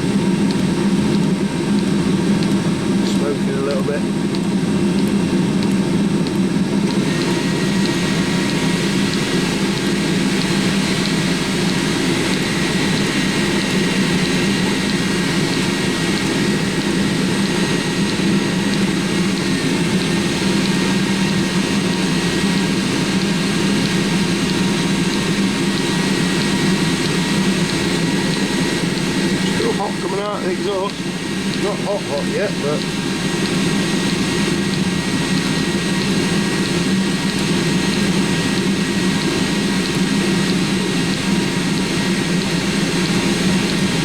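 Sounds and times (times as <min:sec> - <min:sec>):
diesel air heater humming: 0:00.0 - 0:44.0
high whine: 0:00.0 - 0:44.0.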